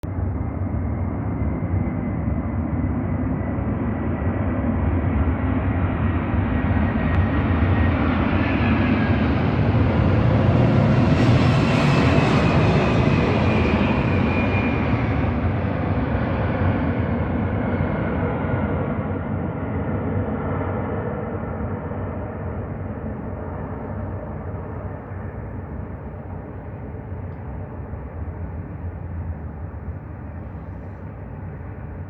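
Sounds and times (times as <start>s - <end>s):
jet engine whine: 0.0s - 32.0s
jet engines rumbling overhead: 0.0s - 32.0s.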